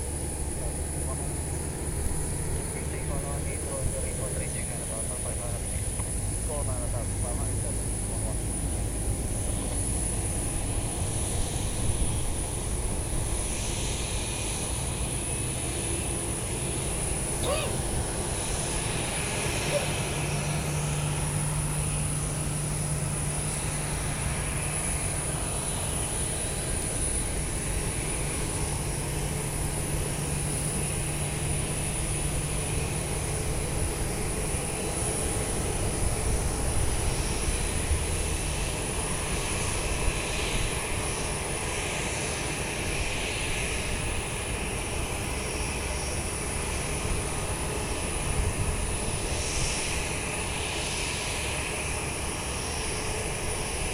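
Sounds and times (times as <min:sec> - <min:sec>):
aircraft engine humming: 0:00.0 - 0:53.9.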